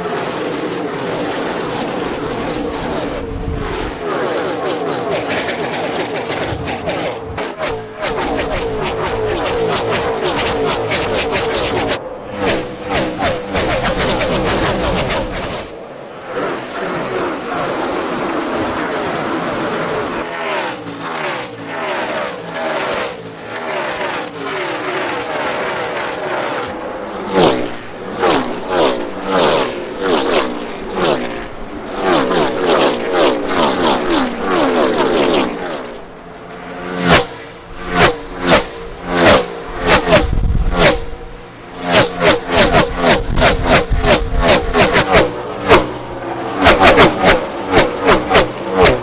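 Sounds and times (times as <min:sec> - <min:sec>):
race cars passing by: 0:00.0 - 0:49.0.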